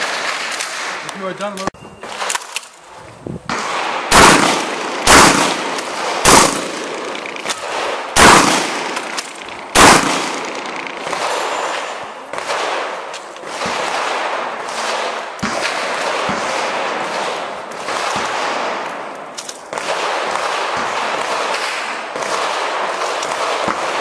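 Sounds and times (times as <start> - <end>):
shotgun shots: 0.0 - 2.6, 3.5 - 24.0.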